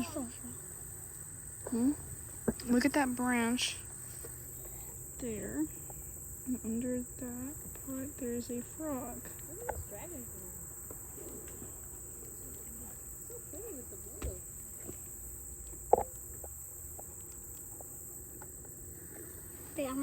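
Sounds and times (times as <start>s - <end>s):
faint voices: 0.0s - 17.1s
insects chirring: 0.0s - 20.0s.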